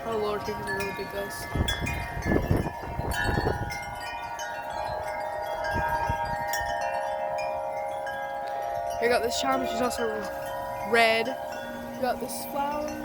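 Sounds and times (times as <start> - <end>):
metal wind chimes ringing: 0.0 - 13.0
wind buffeting microphone: 0.0 - 13.0.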